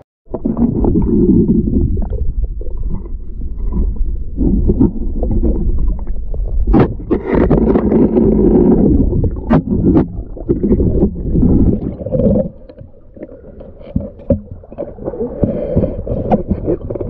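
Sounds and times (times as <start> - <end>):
underwater rumbling and bubbling: 0.2 - 17.0.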